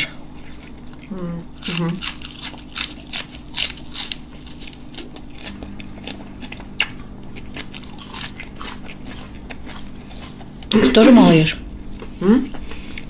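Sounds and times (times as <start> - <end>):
crisp chewing crunches: 0.2 - 10.8.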